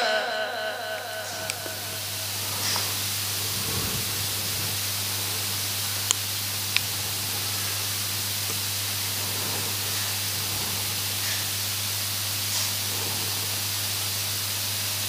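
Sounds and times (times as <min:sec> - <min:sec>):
low steady hum: 0:00.0 - 0:15.0
microphone hiss: 0:00.0 - 0:15.0.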